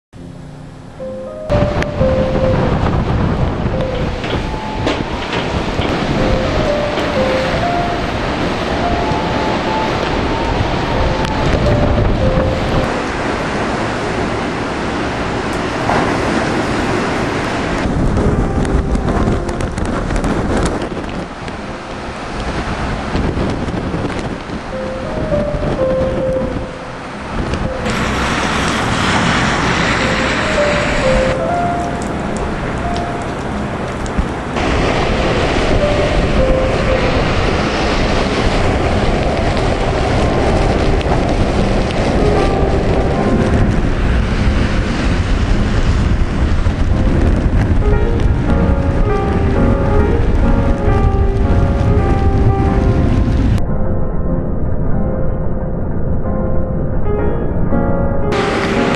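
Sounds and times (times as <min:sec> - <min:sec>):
waves breaking and churning: 0:00.4 - 0:58.9
wind buffeting microphone: 0:01.3 - 0:58.9.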